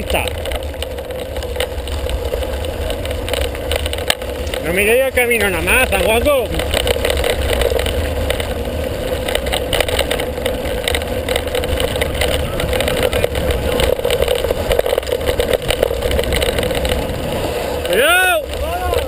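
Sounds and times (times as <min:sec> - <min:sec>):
bike clicks and rattles: 0:00.0 - 0:19.0
tyres crunching on loose stones: 0:00.0 - 0:19.0
wind buffeting microphone: 0:00.0 - 0:19.0.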